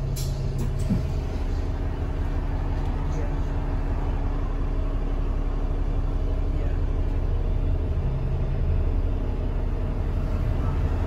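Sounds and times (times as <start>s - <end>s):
bus engine drone: 0.0s - 11.0s
tyre and cabin rumble: 0.0s - 11.0s.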